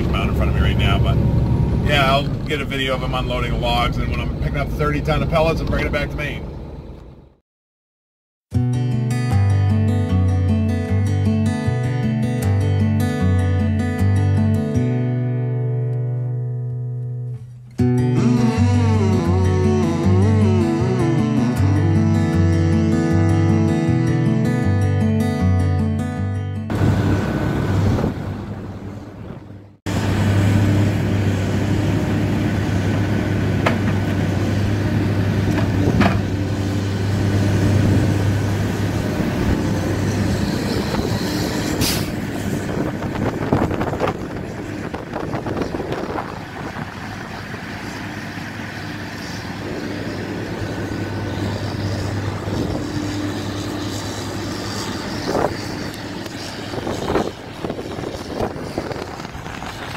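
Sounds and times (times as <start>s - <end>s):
diesel engine running: 0.0s - 7.4s, 17.5s - 26.1s, 26.7s - 59.9s.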